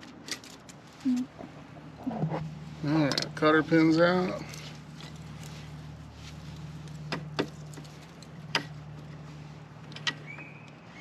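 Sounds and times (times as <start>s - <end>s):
steady low hum: 0.8s - 10.1s.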